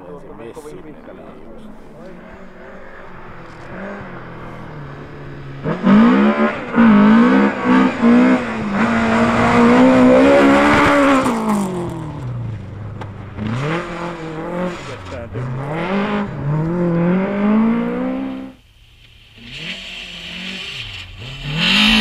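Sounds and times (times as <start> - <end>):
rally car engine revving: 0.0 - 18.6, 19.2 - 22.0
another engine revving: 2.2 - 18.6, 19.4 - 22.0.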